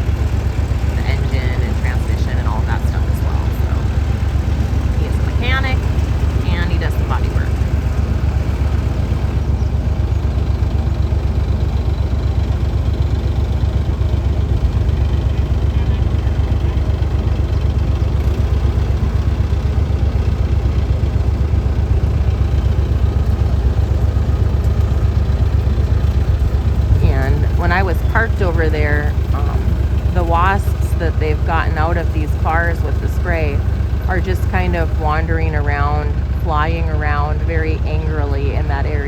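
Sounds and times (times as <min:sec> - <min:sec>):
engine idling: 0:00.0 - 0:39.0.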